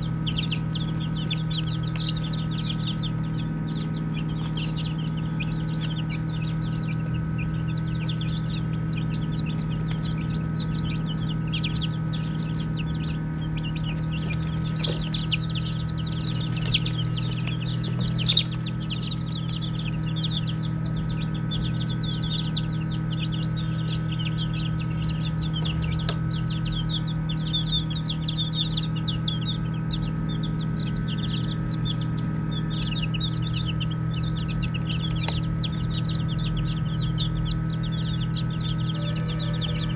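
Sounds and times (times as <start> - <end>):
baby chicks peeping: 0.0 - 39.9
steady low hum: 0.0 - 39.9.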